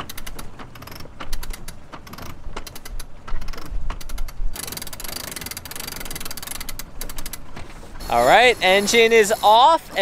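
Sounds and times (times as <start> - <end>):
winch pawls clicking and ratcheting: 0.0 - 10.0.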